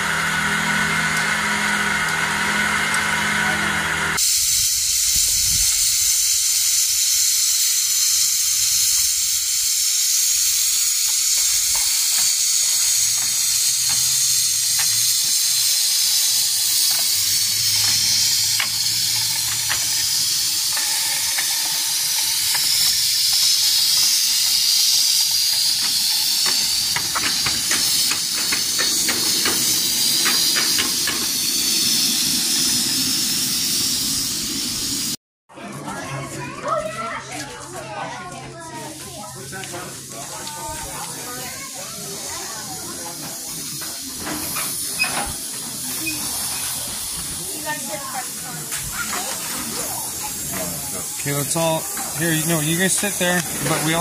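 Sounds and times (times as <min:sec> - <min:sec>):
steam locomotive hissing: 0:00.0 - 0:35.2, 0:38.8 - 0:54.0.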